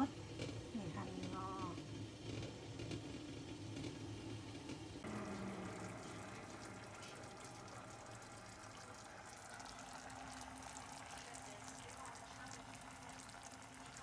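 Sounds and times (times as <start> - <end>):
water boiling and bubbling: 0.0 - 14.0.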